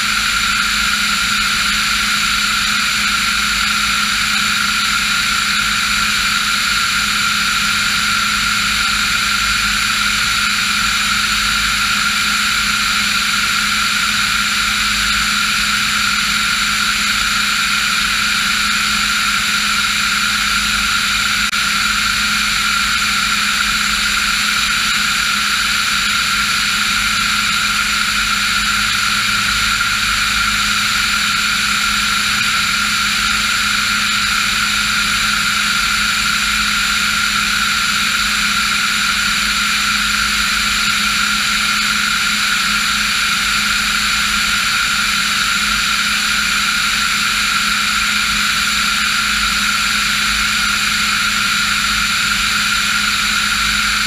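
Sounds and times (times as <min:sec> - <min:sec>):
aircraft engine and propeller drone: 0:00.0 - 0:54.0.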